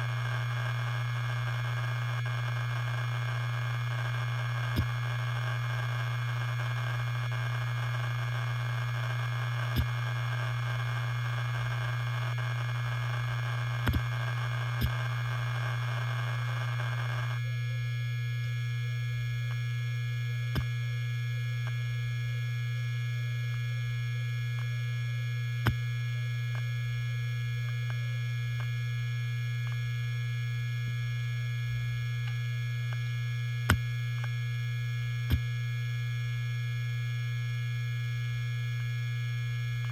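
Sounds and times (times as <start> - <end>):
hard disk drive humming: 0.0 - 39.9.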